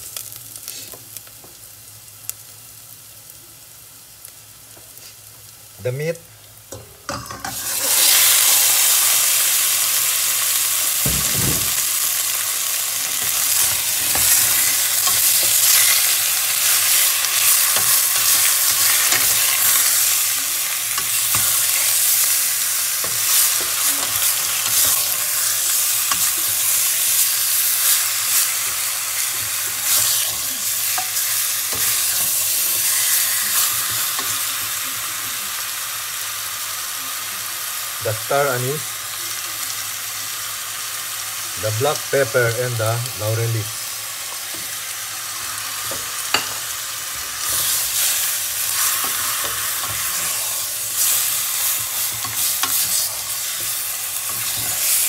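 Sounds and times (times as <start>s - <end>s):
meat sizzling in hot oil: 0.0s - 55.0s.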